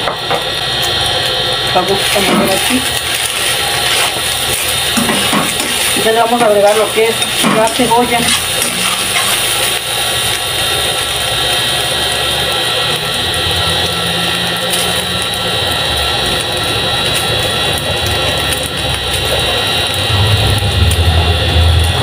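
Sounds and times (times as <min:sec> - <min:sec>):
chicken and onion sizzling in oil: 0:00.0 - 0:22.0.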